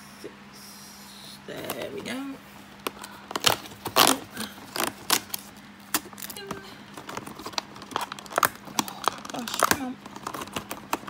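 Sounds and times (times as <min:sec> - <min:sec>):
faint steady hum: 0:00.0 - 0:11.0
card and plastic packaging crinkling: 0:01.6 - 0:11.0.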